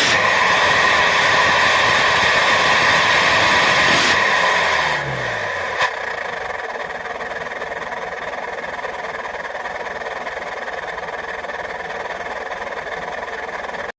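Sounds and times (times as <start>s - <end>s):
engine idling with fast flutter: 0.0s - 13.9s.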